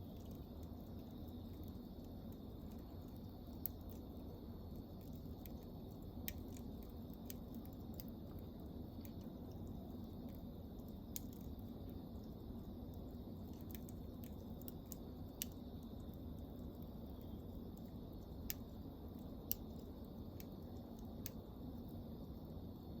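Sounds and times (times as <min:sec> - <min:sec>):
campfire burning: 0:00.0 - 0:23.0
fire crackles and pops: 0:00.0 - 0:23.0.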